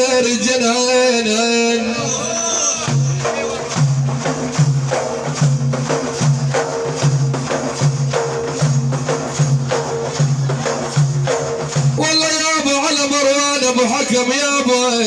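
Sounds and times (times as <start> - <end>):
hand percussion beat: 1.8 - 14.7.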